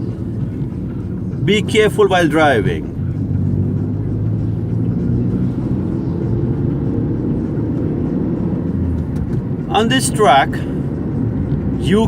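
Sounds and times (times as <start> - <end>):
car interior engine and road rumble: 0.0 - 12.0.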